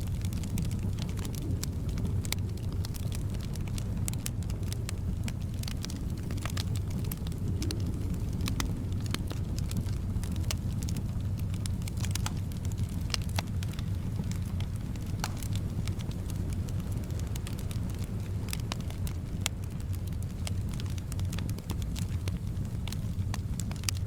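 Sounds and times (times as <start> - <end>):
low rumble of flame: 0.0 - 24.0
soft wind: 0.0 - 24.0
wood fire crackling: 0.0 - 24.0
sharp pops and snaps: 0.3 - 24.0.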